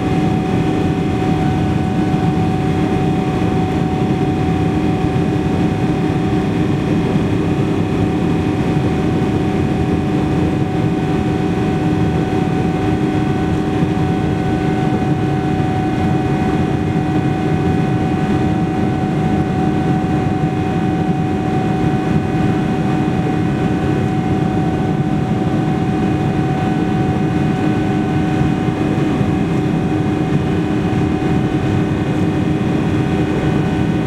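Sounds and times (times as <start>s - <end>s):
engine and air noise in cabin: 0.0s - 34.0s
steady humming tones: 0.0s - 34.0s.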